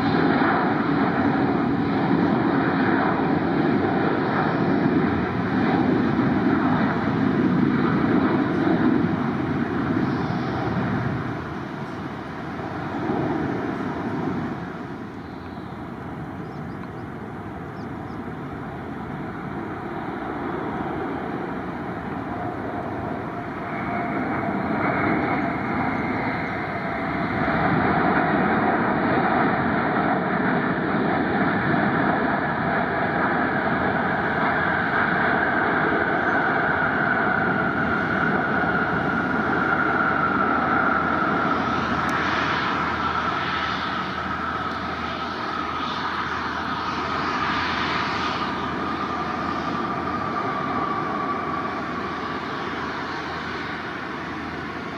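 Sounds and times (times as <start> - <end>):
high engine whine: 0.0 - 54.9
jet airliner engines: 0.0 - 54.9.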